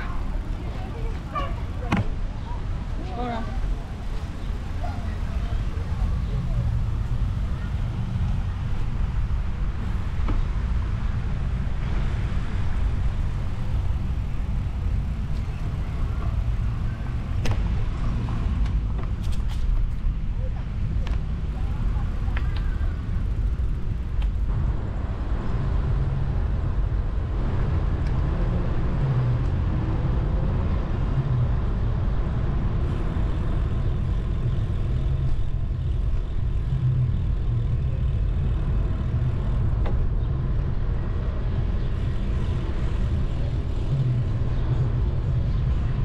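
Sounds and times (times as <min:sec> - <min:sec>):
light road traffic: 0:00.0 - 0:46.0
wind and tyres rumbling: 0:00.0 - 0:46.0.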